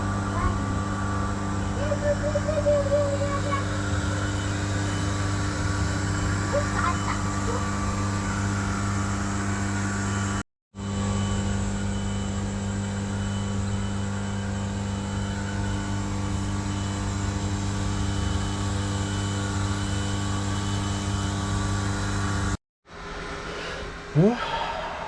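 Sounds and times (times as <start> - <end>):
laser engraver humming: 0.0 - 22.6.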